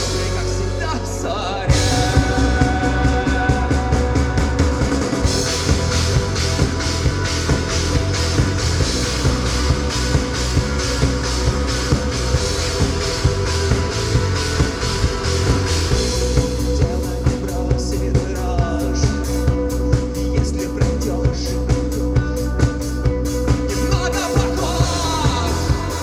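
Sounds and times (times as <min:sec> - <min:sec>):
rock band playing live: 0:00.0 - 0:26.0
drum kit beat: 0:01.7 - 0:26.0.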